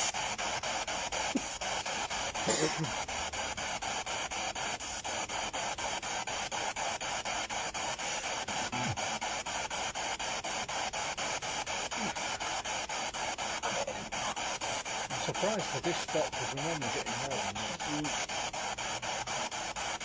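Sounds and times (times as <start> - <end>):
chopped radio static hiss: 0.0 - 20.0.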